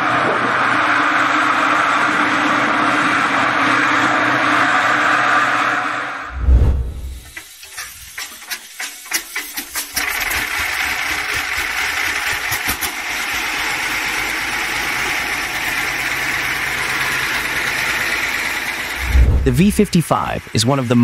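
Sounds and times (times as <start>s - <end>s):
diesel engine starting: 0.0s - 21.0s.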